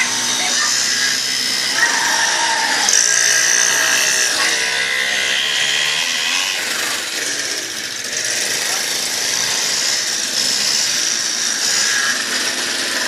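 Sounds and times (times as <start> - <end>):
mini dirt bike engine revving: 0.0 - 13.0.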